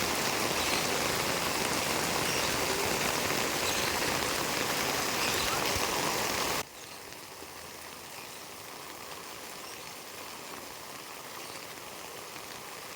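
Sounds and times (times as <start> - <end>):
louder rush of rain: 0.0 - 12.9
steady rain falling: 0.0 - 12.9.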